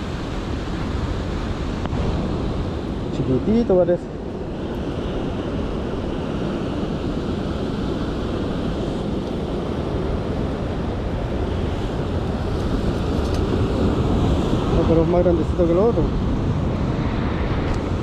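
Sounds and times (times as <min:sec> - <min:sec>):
surf washing on beach: 0:00.0 - 0:18.0
wind buffeting microphone: 0:00.0 - 0:18.0.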